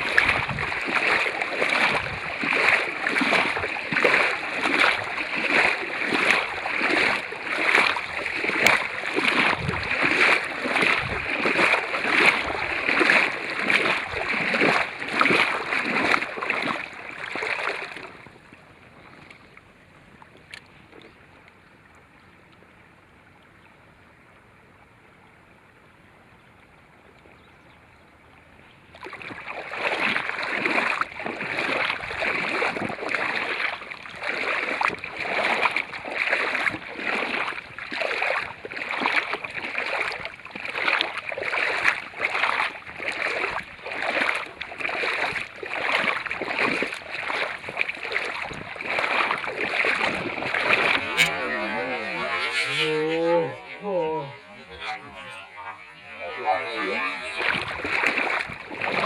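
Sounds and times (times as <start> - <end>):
water splashing and rushing: 0.0 - 21.4, 28.4 - 59.0.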